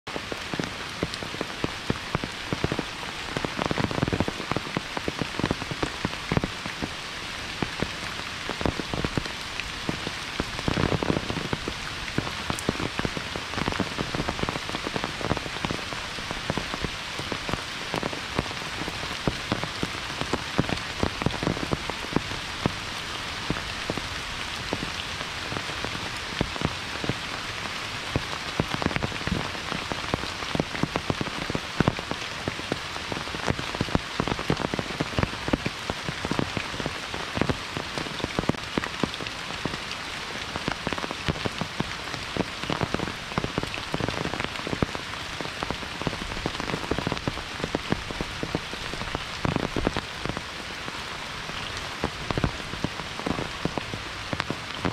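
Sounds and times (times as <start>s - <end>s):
heavy rain with drops: 0.0s - 54.9s.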